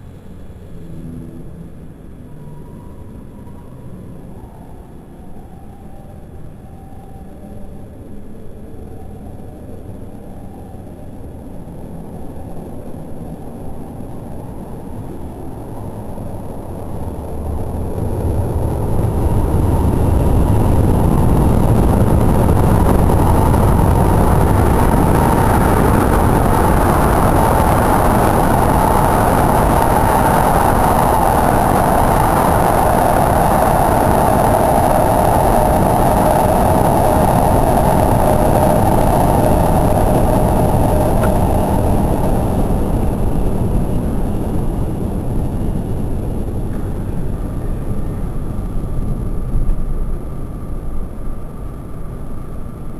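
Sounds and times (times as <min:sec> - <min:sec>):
high-speed train passing: 0:09.6 - 0:52.9.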